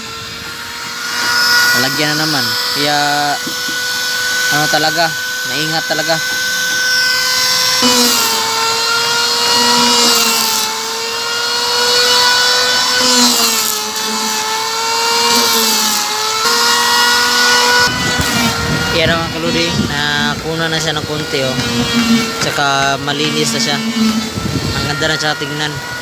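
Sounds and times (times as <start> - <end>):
electric planer cutting wood: 0.0 - 26.0.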